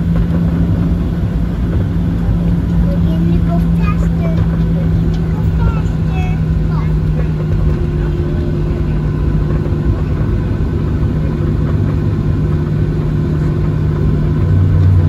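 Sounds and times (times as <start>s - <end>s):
jet engines humming and rumbling: 0.0s - 15.0s.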